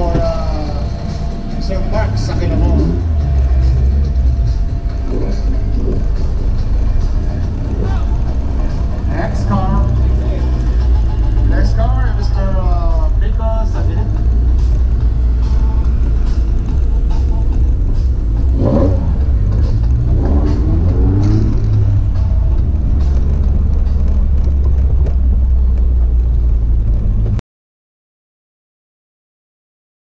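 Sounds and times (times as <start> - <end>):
car engine low rumble: 0.0 - 27.4.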